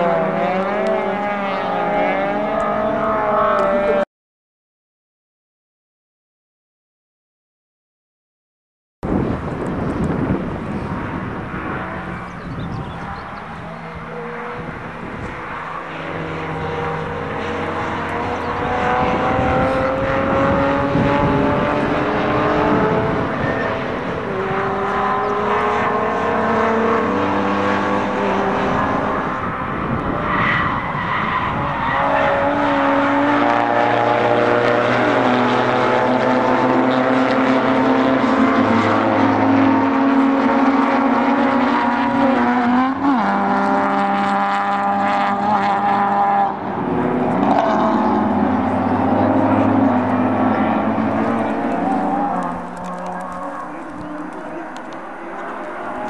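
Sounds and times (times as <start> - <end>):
racing car engines accelerating: 0.0 - 4.1, 9.2 - 56.0.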